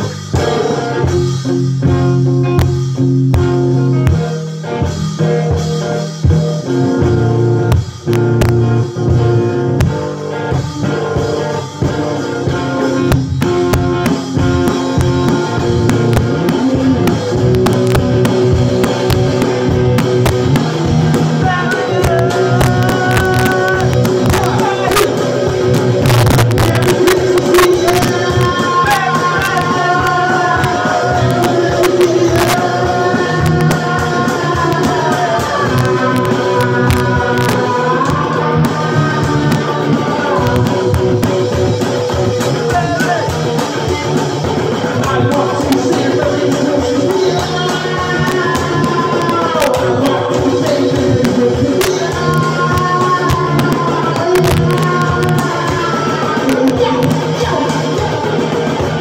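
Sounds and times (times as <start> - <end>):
rock music on electric guitar: 0.0 - 59.0.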